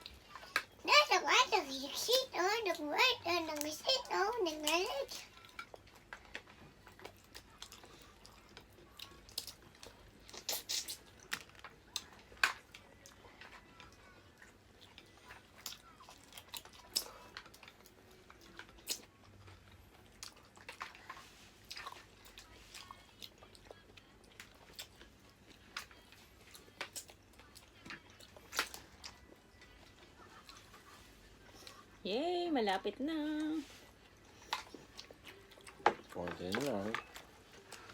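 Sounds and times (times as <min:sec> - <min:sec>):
people chewing seafood: 0:04.6 - 0:32.0, 0:33.6 - 0:37.9.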